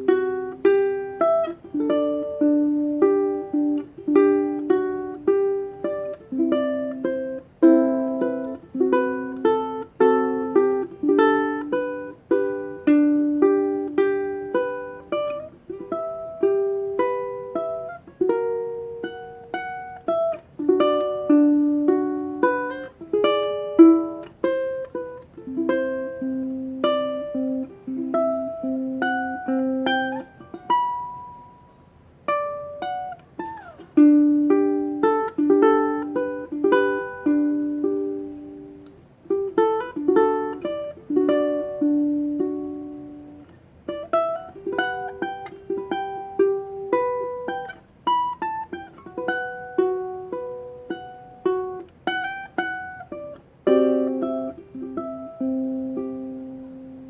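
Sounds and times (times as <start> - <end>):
fingerpicked ukulele melody: 0.0 - 57.0.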